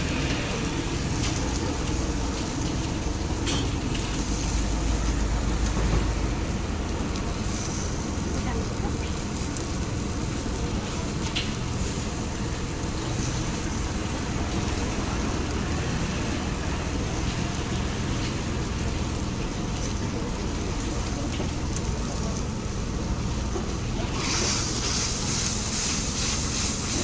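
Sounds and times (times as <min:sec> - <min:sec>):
low rushing flame rumble: 0:00.0 - 0:27.0
meat sizzling on grill: 0:00.0 - 0:27.0.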